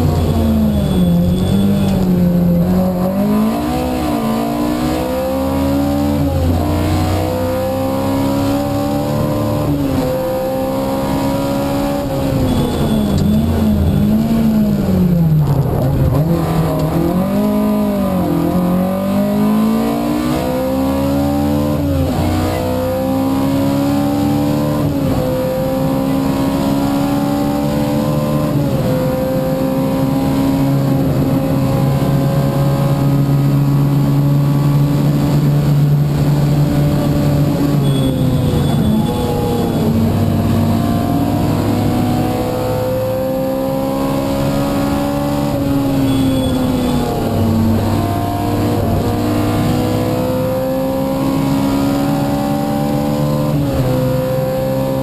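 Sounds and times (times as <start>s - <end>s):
rally car engine at full throttle: 0.0s - 55.0s
road noise: 0.0s - 55.0s.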